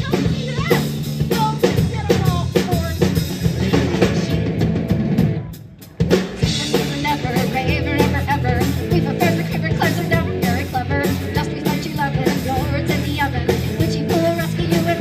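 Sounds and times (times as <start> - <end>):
drum kit: 0.0 - 15.0
rock band playing: 0.0 - 15.0.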